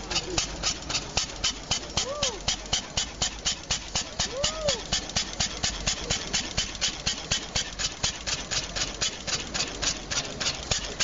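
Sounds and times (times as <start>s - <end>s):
single-cylinder engine idling: 0.0s - 11.0s.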